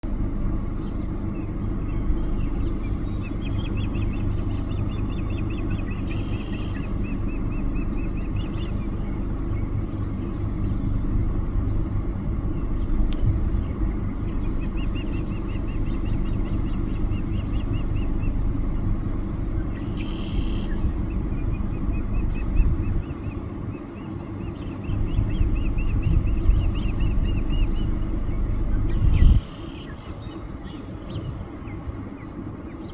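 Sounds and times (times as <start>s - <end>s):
steady low rumble: 0.0s - 32.9s
eagles chittering: 0.8s - 32.9s.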